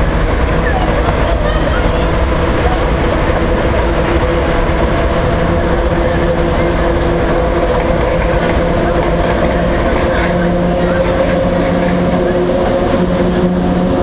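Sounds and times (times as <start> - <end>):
electric locomotive humming: 0.0 - 14.0
train rumble: 0.0 - 14.0.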